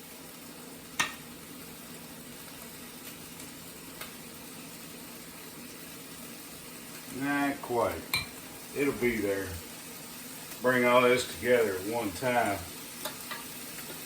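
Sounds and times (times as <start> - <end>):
chicken sizzling in a skillet: 0.0 - 14.0.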